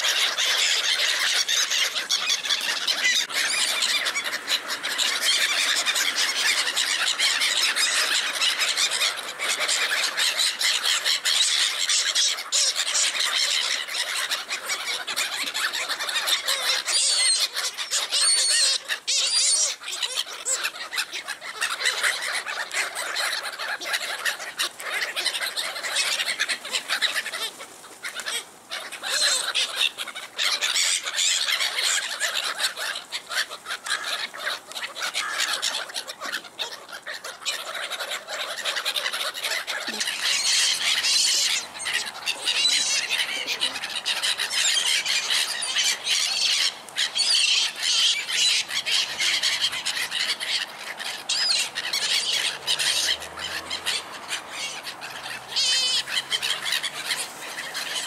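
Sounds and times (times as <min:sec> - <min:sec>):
gulls calling harshly: 0:00.0 - 0:58.0.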